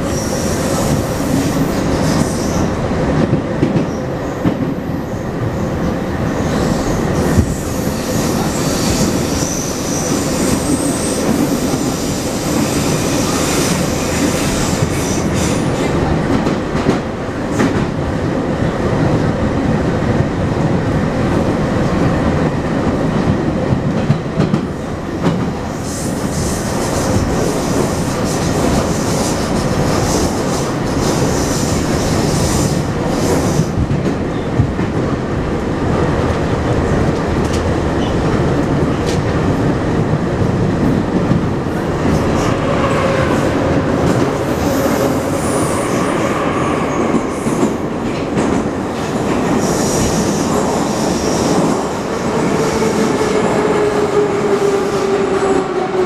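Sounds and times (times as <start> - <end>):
steady train whine: 0.0 - 56.0
train wheels rumbling on rails: 0.0 - 56.0.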